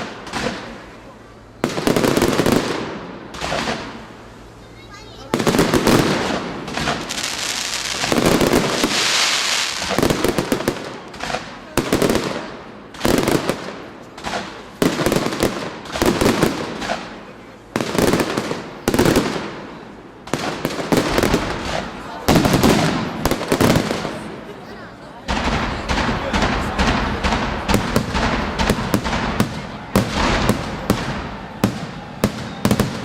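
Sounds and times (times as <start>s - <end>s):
fireworks bursting: 0.0s - 33.0s
fireworks hissing crackle: 0.0s - 33.0s.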